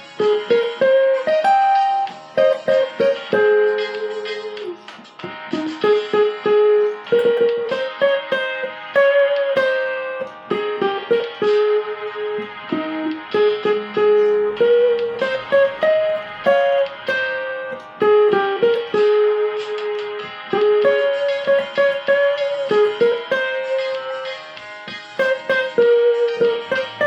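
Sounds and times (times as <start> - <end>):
plucked cavaquinho melody: 0.0 - 27.0.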